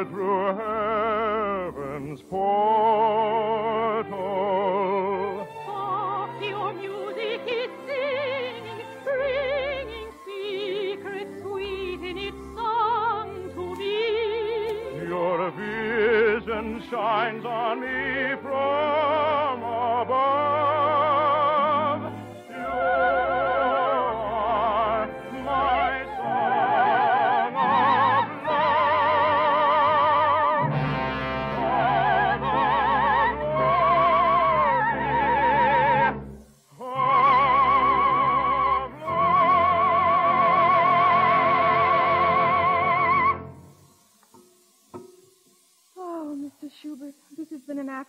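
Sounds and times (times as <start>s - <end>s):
operatic singing: 0.0s - 43.6s
orchestral accompaniment: 0.0s - 43.8s.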